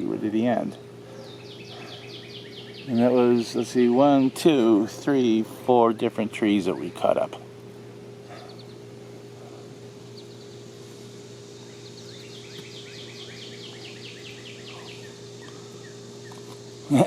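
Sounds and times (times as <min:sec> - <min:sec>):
songbird singing: 0:00.0 - 0:17.0
steady low hum: 0:00.0 - 0:17.0.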